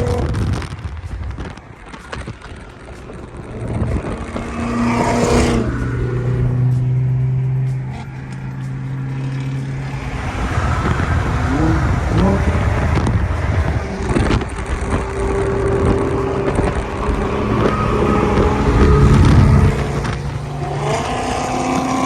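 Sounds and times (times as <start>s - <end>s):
rough engine and tyre noise: 0.0s - 22.0s
steady low engine tone: 2.9s - 22.0s.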